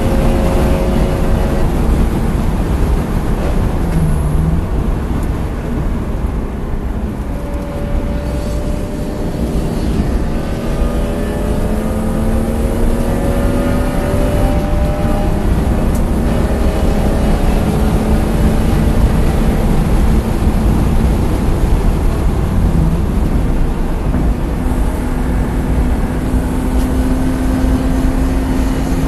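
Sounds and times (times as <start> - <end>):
car engine accelerating: 0.0 - 29.0
road and wind noise: 0.0 - 29.0.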